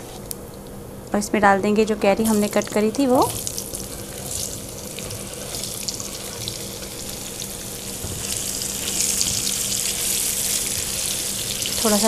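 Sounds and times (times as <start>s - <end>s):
mango sizzling in oil: 2.2s - 12.0s.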